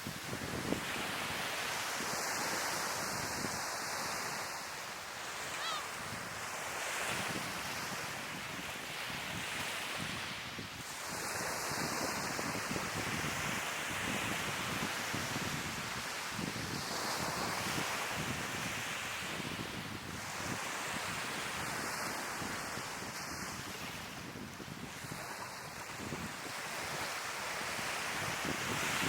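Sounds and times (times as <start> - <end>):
wind buffeting microphone: 0.0 - 4.4, 5.8 - 29.0
sea waves breaking on shore: 0.0 - 29.0.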